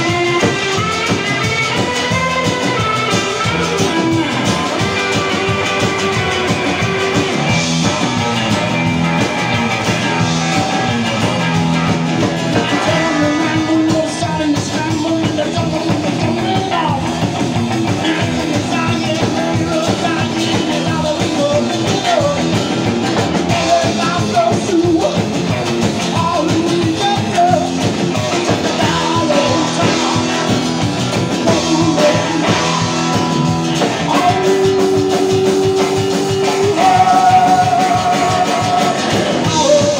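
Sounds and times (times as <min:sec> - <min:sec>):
drum kit: 0:00.0 - 0:39.9
electric guitar: 0:00.0 - 0:39.9
upright double bass: 0:00.0 - 0:39.9.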